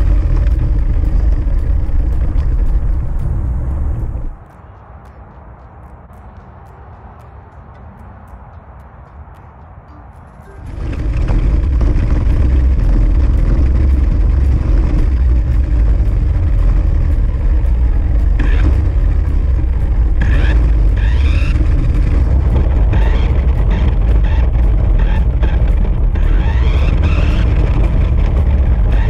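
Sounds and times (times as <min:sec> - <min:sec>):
toy car motor and tyre noise: 0:00.0 - 0:07.2, 0:10.1 - 0:29.0.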